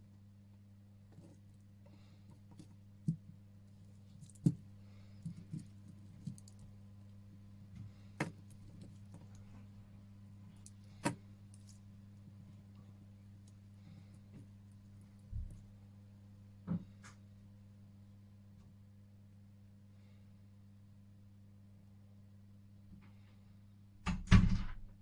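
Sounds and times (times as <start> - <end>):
steady low hum: 0.0 - 24.1.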